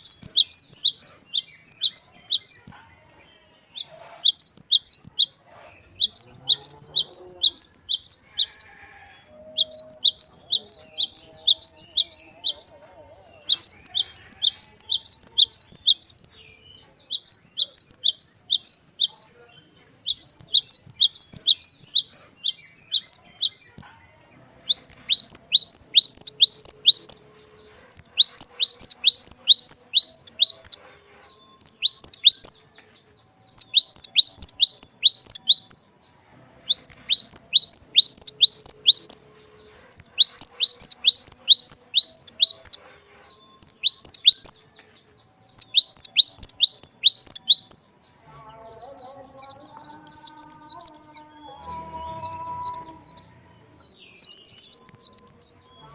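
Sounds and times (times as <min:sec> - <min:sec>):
bird singing high chirps: 0:00.0 - 0:55.9.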